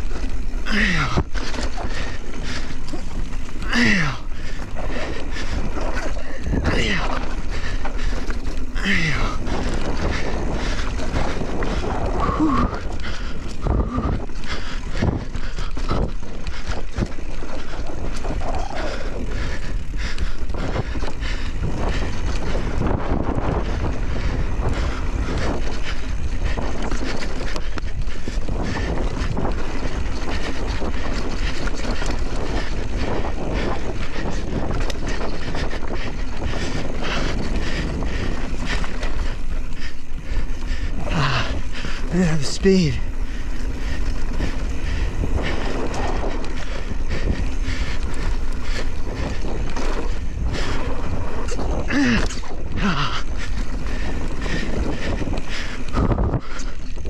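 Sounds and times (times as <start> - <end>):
bike tyre noise: 0.0 - 57.0
wind on microphone: 0.0 - 57.0.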